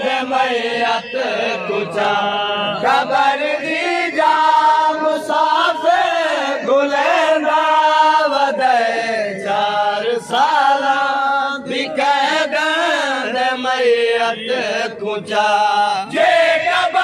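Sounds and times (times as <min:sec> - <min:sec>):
men chanting a mourning lament: 0:00.0 - 0:17.0.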